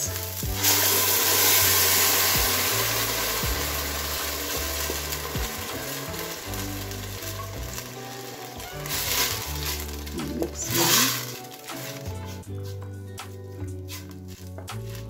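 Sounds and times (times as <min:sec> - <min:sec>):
tomatoes sizzling in hot oil: 0:00.0 - 0:12.5
background music: 0:00.0 - 0:15.0.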